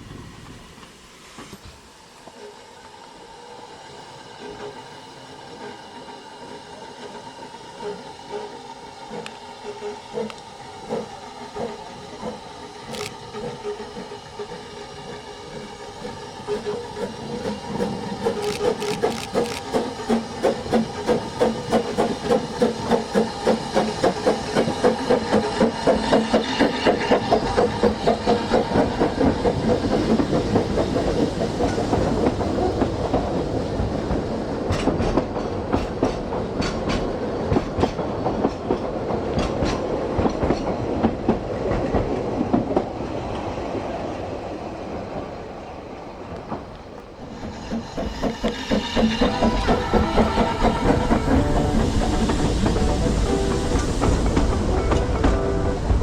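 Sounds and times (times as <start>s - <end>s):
steam locomotive exhaust beats: 0.0s - 43.0s, 46.4s - 56.0s.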